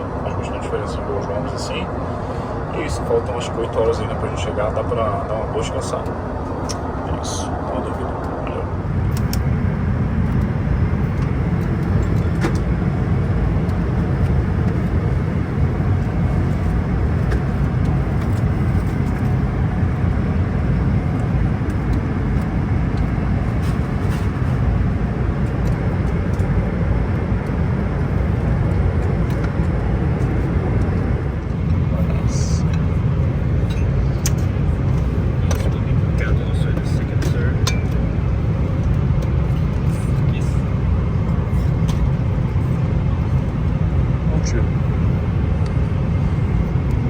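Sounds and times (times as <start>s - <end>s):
airplane cabin noise: 0.0s - 47.0s
jet engines and airflow rush: 0.0s - 47.0s.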